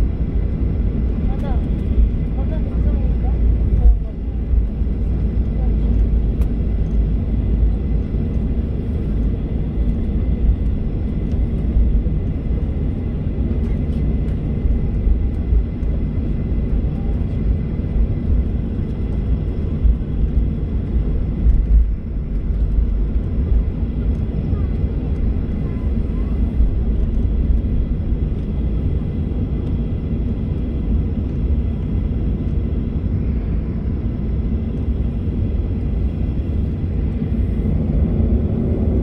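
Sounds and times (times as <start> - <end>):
jet engines rumbling: 0.0 - 39.0
wheels rolling on taxiway: 0.1 - 39.0.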